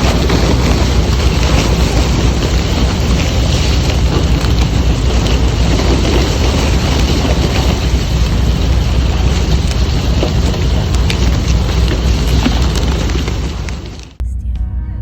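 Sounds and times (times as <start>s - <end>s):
rushing noise: 0.0s - 14.2s
ship low rumble: 0.0s - 14.2s.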